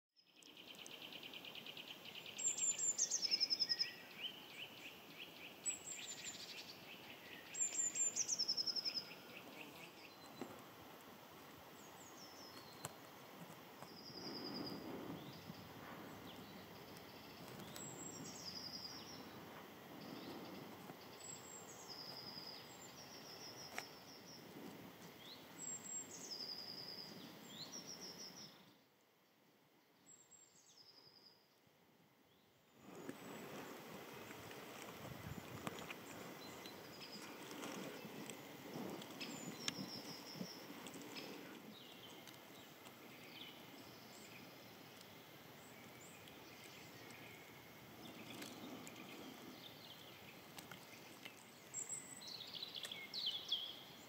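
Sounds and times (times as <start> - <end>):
faint outdoor hiss: 0.2 - 54.0.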